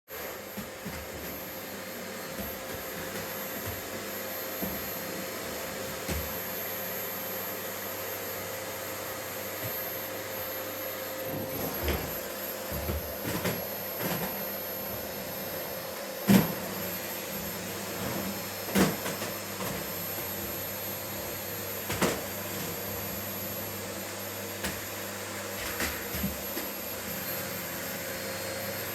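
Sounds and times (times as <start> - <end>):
vacuum cleaner humming: 0.1 - 28.9.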